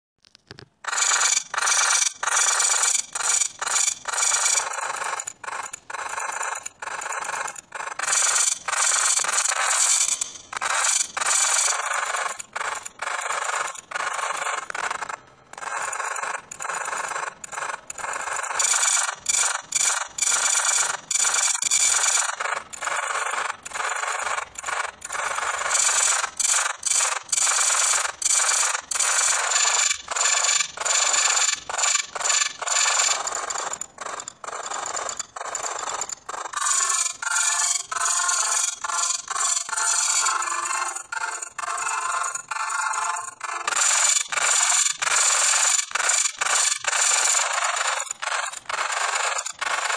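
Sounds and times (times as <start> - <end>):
harsh scratchy stuttering noise: 0.2 - 49.9.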